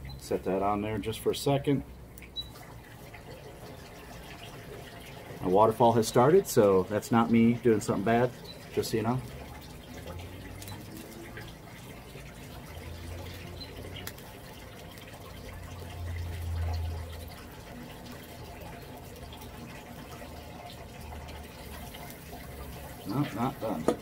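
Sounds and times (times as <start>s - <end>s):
water feature trickling and splashing: 0.0s - 24.0s.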